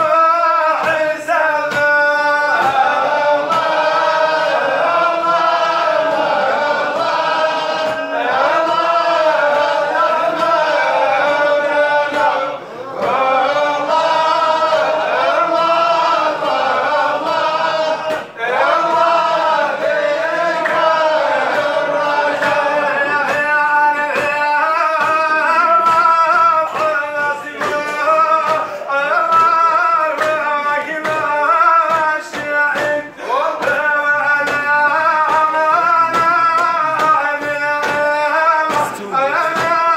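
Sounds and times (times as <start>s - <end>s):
men singing a devotional chant: 0.0s - 39.9s
regular beat: 0.0s - 39.9s.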